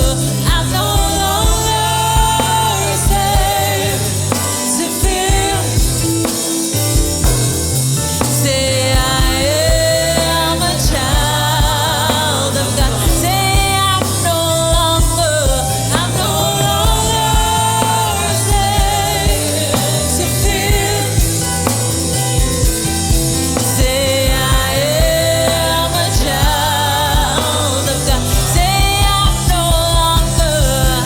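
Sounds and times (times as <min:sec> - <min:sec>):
band with steady drum beat: 0:00.0 - 0:31.0.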